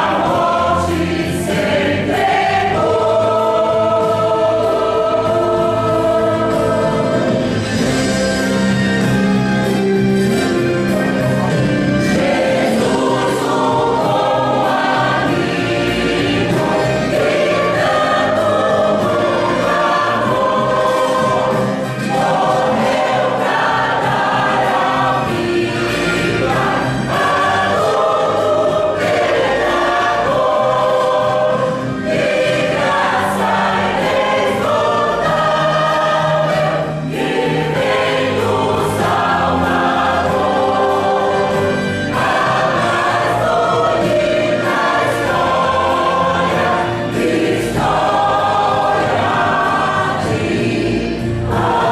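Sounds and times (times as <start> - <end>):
choir singing a hymn: 0.0 - 51.9
instrumental accompaniment: 0.0 - 51.9.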